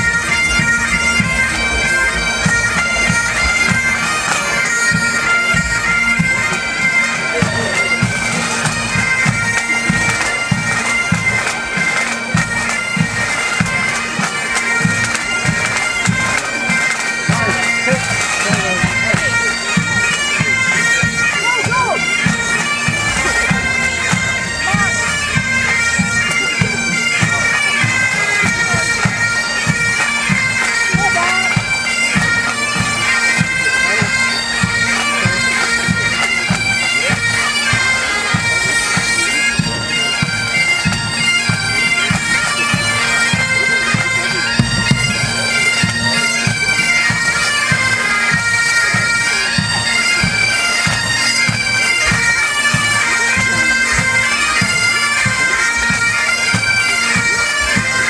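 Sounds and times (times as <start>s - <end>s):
bagpipes playing tune over drone: 0.0s - 58.0s
drums keeping a beat: 0.0s - 58.0s.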